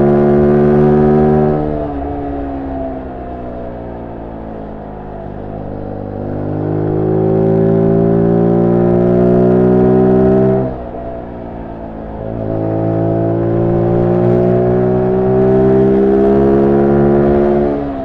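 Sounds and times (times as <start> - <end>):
motorcycle engine revving: 0.0 - 3.8, 5.0 - 18.0.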